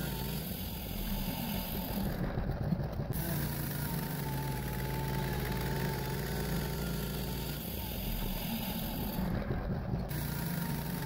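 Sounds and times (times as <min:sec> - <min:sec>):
gas engine running: 0:00.0 - 0:11.0.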